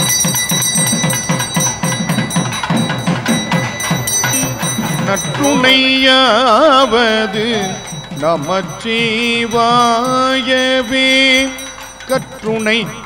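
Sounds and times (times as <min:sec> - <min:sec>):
drum beating steady pattern: 0:00.0 - 0:13.0
high ringing tones: 0:00.0 - 0:13.0.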